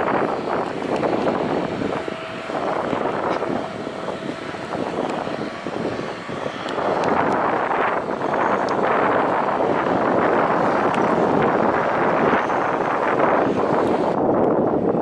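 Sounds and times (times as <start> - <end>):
faint steady whine: 0.0 - 14.4
jet engines running: 0.0 - 15.0
wind buffeting microphone: 0.0 - 15.0.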